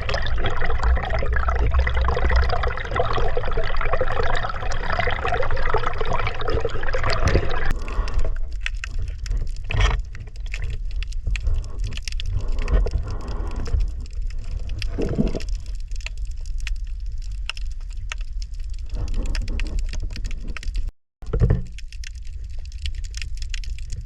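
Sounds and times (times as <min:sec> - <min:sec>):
crackling and clicking: 0:00.0 - 0:24.0
water sloshing and gurgling: 0:00.0 - 0:24.0.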